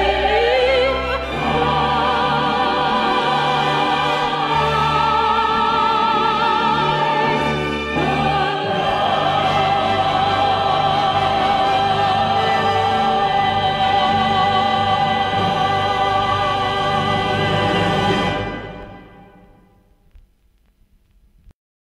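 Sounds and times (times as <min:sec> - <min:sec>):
operatic singing: 0:00.0 - 0:19.6
orchestral music: 0:00.0 - 0:19.8.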